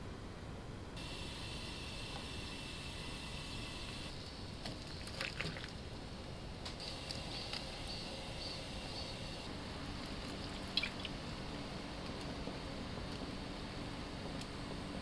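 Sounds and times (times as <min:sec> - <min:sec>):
low hiss: 0:00.0 - 0:15.0.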